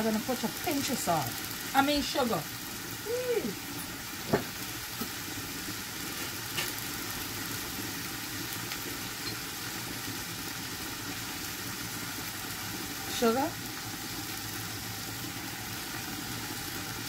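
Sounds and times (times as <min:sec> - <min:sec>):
meat and vegetables sizzling in pan: 0:00.0 - 0:17.0.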